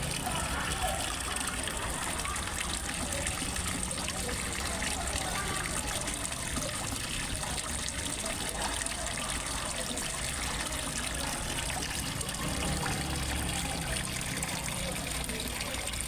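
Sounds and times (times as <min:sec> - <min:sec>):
small waterfall splashing: 0:00.0 - 0:16.0.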